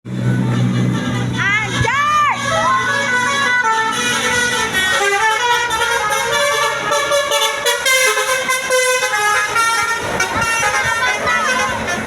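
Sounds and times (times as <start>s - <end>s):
bus musical horn tune: 0.1s - 12.0s.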